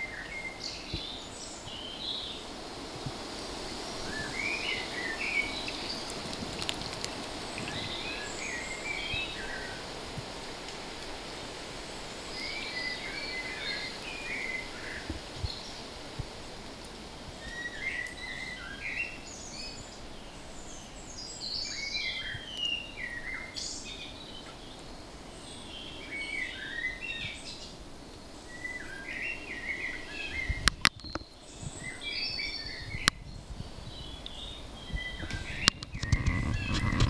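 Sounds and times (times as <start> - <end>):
soft outdoor hiss: 0.0 - 37.0
songbirds chirping: 0.0 - 37.0.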